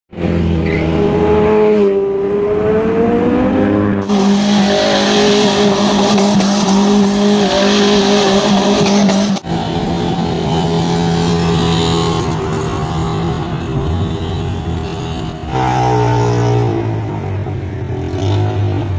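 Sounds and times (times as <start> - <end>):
car engine revving high: 0.2 - 17.1.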